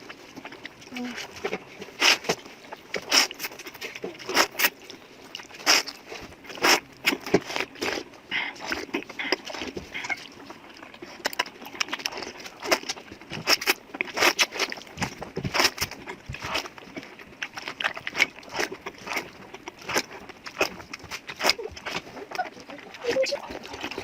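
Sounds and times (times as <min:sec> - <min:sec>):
person chewing noodles: 0:00.0 - 0:24.0.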